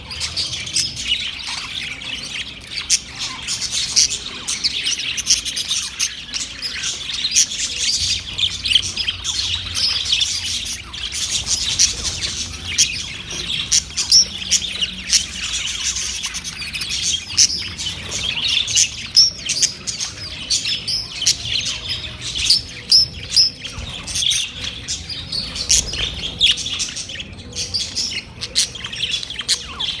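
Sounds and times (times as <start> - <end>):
budgerigars chirping and squawking: 0.0 - 30.0.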